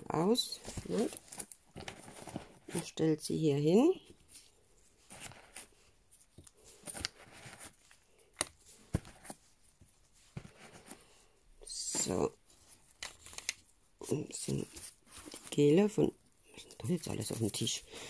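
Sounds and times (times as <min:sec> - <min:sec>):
faint rustling of handling: 0:00.3 - 0:03.0, 0:03.9 - 0:18.0.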